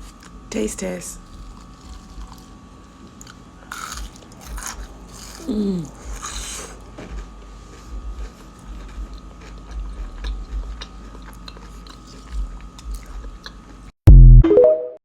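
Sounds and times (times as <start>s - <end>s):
close chewing: 1.2s - 2.5s, 3.1s - 13.9s.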